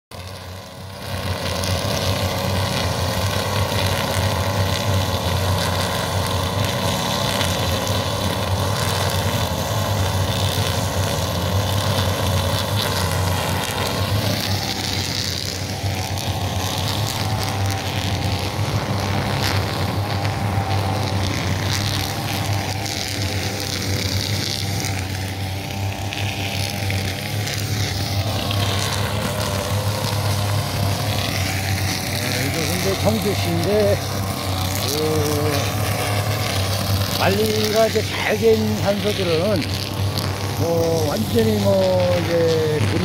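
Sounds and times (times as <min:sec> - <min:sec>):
brush cutter engines droning: 0:00.1 - 0:43.0.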